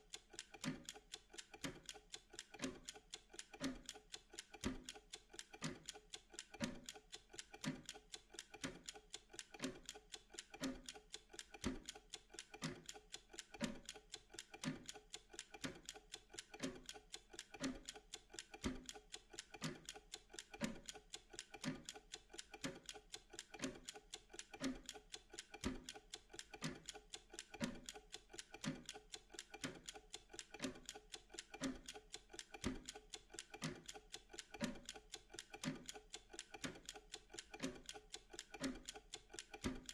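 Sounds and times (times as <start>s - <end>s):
timer ticking: 0.0s - 39.9s.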